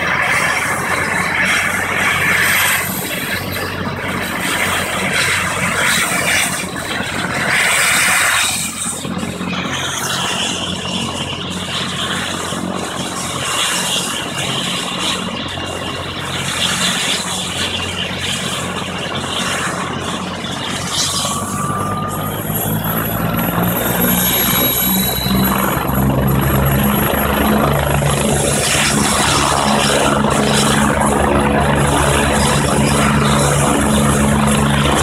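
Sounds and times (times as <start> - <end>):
helicopter rotor beating: 0.0 - 35.0
helicopter turbine whine: 0.0 - 35.0
high steady whine: 0.0 - 35.0.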